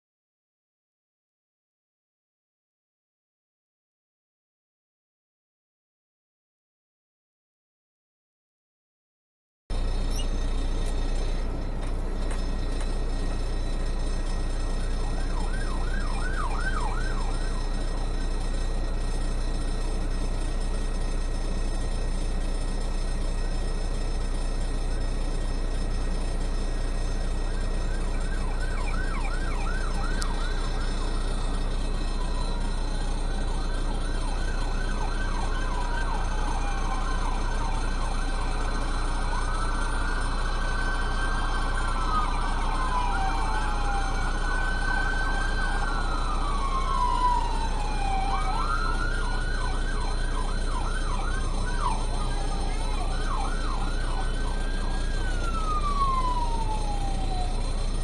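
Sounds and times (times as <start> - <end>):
engine and road noise: 9.7 - 58.0
police sirens yelping and wailing: 9.7 - 58.0.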